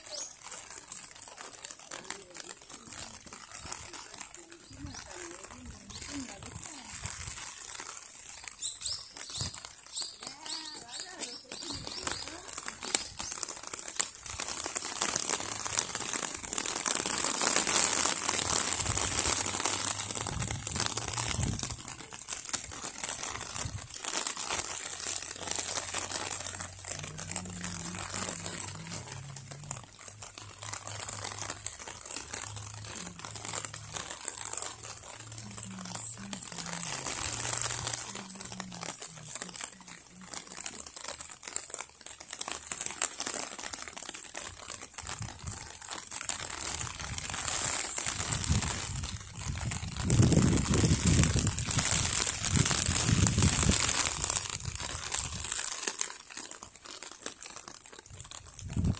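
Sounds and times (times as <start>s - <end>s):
crinkling rustle: 0.0s - 58.9s.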